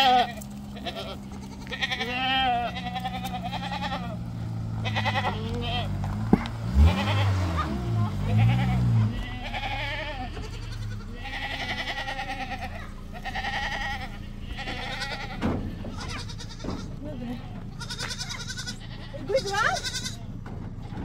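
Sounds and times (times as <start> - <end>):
goats bleating: 0.0 - 21.0.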